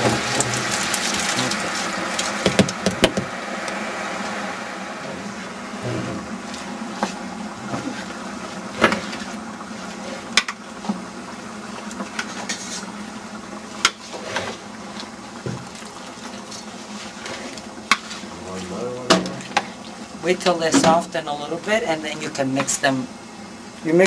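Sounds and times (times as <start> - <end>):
gas burner rushing: 0.0 - 24.0.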